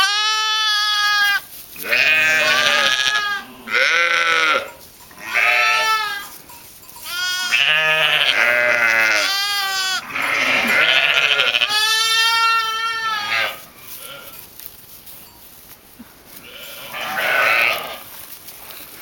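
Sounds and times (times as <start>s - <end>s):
sheep bleating: 0.0s - 6.4s, 7.0s - 14.4s, 16.4s - 18.1s.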